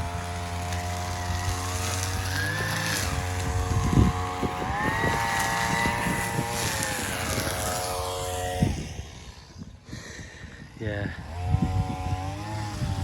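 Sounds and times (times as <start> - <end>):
string trimmer engine revving: 0.0 - 9.9, 10.6 - 13.0.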